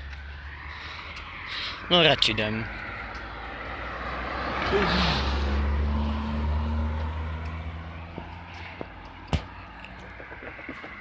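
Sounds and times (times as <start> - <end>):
car passing by: 0.0 - 11.0.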